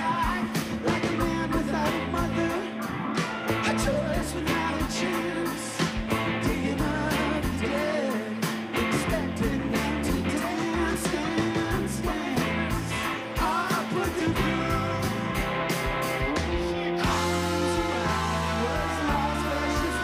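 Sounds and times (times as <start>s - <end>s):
man singing: 0.0s - 15.4s, 16.1s - 20.0s
drums: 0.0s - 20.0s
electric guitars: 0.0s - 20.0s.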